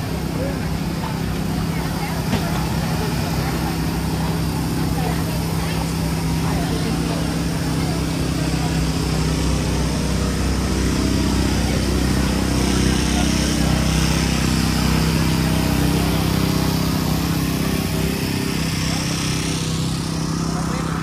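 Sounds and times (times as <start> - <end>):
engine running steadily: 0.0 - 21.0
outdoor hubbub: 0.0 - 21.0.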